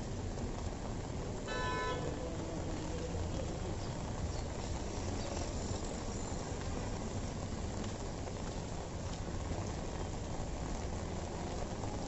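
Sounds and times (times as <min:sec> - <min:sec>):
rain falling on wet street: 0:00.0 - 0:12.0.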